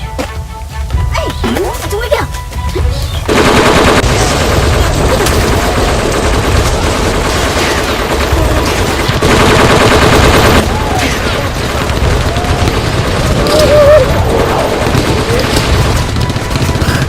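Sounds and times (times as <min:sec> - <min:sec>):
background music: 0:00.0 - 0:17.0
rapid automatic gunfire: 0:03.3 - 0:17.0.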